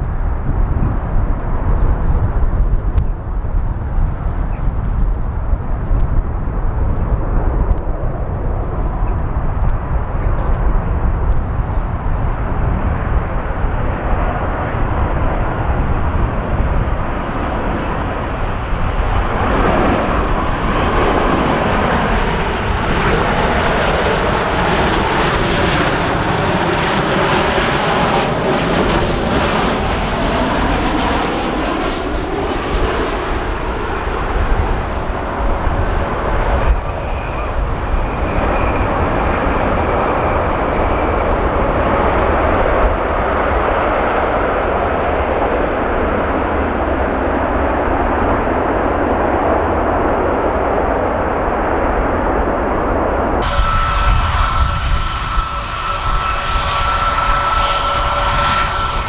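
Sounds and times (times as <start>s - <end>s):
jet airliner landing: 0.0s - 59.0s
wind on microphone: 0.0s - 59.0s.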